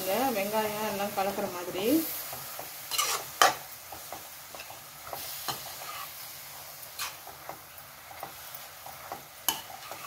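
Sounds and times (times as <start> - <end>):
food sizzling in a pan: 0.0 - 10.0
metal spatula scraping a pan: 1.8 - 10.0.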